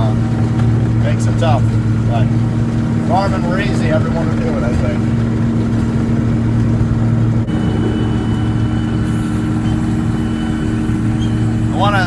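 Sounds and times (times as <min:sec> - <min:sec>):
heavy machine engine droning: 0:00.0 - 0:12.0.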